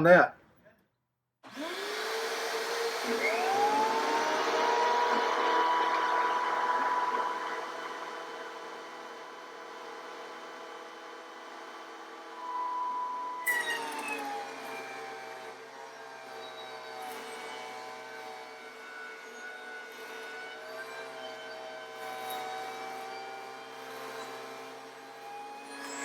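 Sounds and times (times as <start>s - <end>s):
jointer motor whining: 1.5s - 23.2s
jointer cutting wood: 1.5s - 26.0s.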